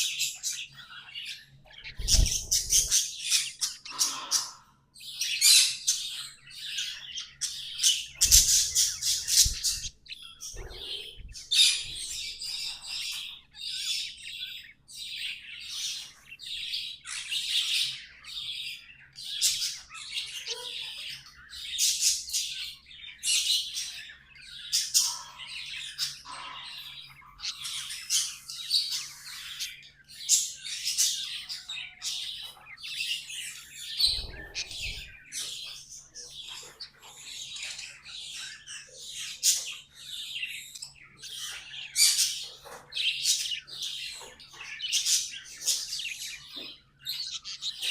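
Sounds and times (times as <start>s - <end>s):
budgerigars chattering and warbling: 0.0s - 47.9s.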